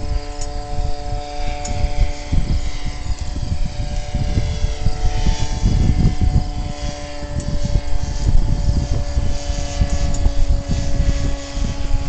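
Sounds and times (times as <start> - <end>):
distant engine droning: 0.0 - 12.0
wind buffeting microphone: 0.0 - 12.0.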